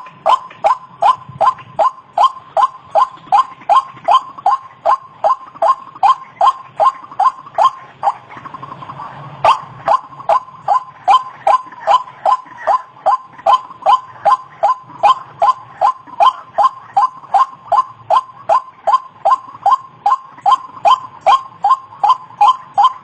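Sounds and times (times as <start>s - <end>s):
bird calling repeated notes: 0.0s - 23.0s
bird soft rapid chatter: 0.3s - 23.0s.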